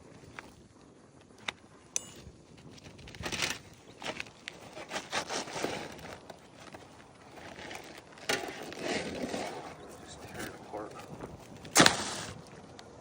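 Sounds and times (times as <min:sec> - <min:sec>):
roof shingles scraping and crackling: 0:00.0 - 0:13.0.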